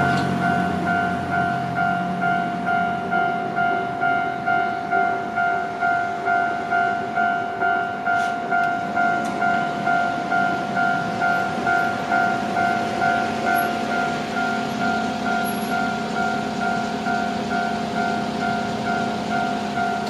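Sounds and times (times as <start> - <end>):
electronic crossing bell dinging: 0.0 - 20.0.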